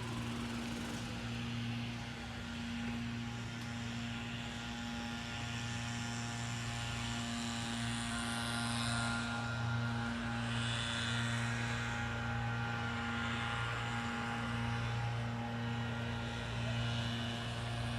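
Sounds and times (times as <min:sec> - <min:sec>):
steady mechanical hum: 0:00.0 - 0:17.9.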